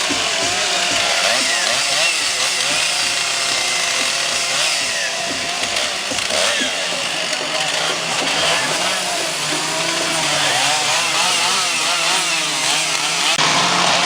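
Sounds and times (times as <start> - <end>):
chainsaws cutting logs: 0.0 - 14.0.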